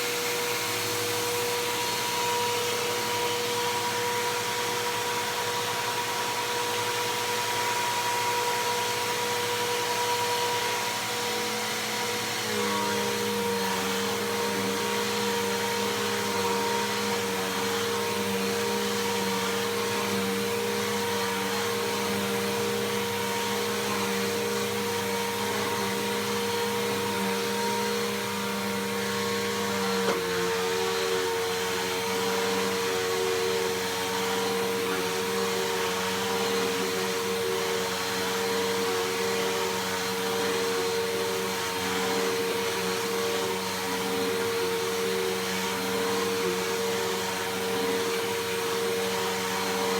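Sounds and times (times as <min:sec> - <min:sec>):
upright vacuum cleaner running: 0:00.0 - 0:49.9.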